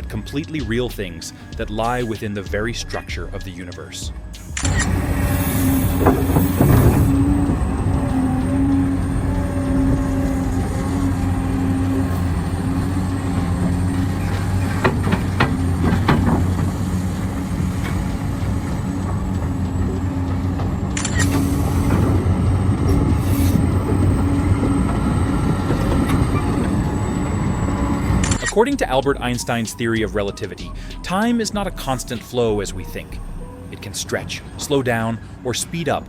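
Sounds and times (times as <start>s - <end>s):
construction machinery engine: 0.0s - 36.0s.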